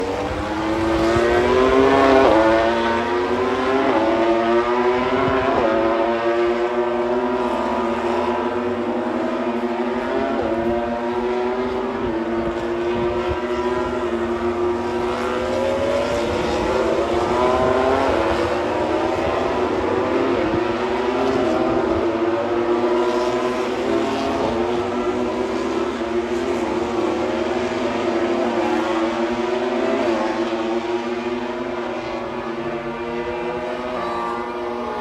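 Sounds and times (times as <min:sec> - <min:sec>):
racing motorcycles accelerating: 0:00.0 - 0:35.0.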